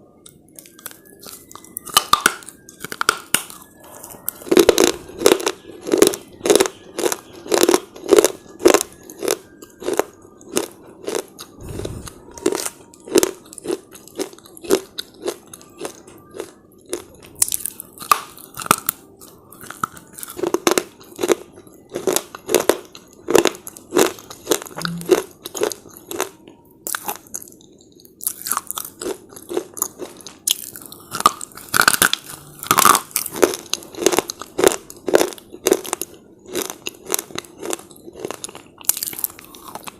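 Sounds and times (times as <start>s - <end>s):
crunching and chewing chips: 0.2s - 39.9s.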